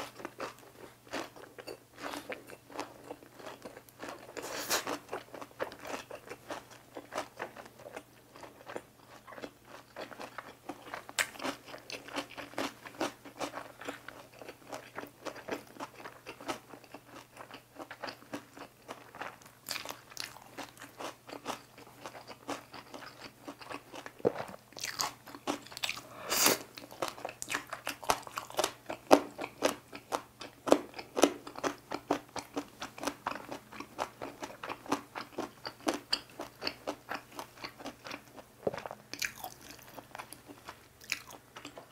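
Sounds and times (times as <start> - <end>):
chewing crunchy food: 0.0 - 41.9.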